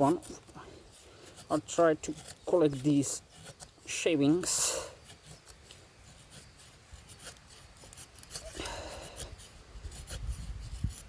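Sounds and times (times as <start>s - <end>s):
machete scraping dry wood: 0.0s - 11.0s.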